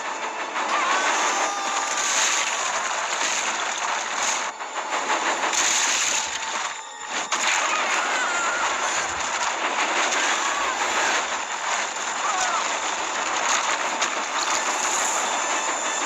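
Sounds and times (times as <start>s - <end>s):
rocks tumbling and crashing: 0.0s - 16.0s
small engine racing: 0.0s - 16.0s.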